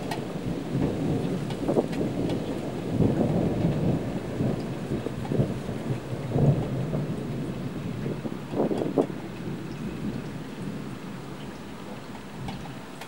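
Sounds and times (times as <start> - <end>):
thunder rumbling: 0.0 - 11.4
rain falling: 0.0 - 13.0.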